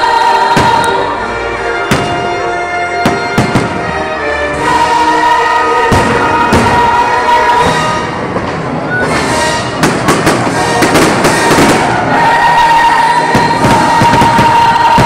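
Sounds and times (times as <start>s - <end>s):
fireworks bangs and crackles: 0.0s - 4.8s, 5.8s - 15.0s
loud show music: 0.0s - 15.0s.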